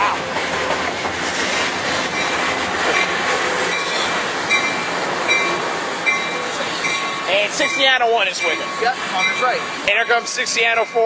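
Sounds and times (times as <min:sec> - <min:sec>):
train wheels rushing on rail: 0:00.0 - 0:11.0.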